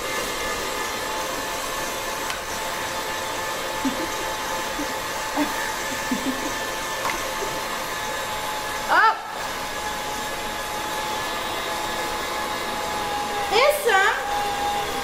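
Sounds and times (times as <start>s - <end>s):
stand mixer motor whining: 0.0s - 15.0s.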